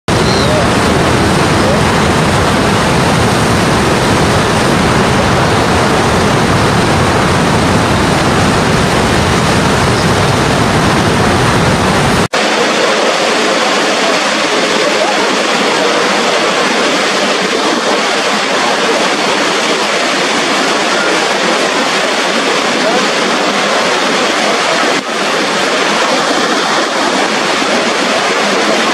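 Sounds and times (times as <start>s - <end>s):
waterfall rushing: 0.1s - 28.9s.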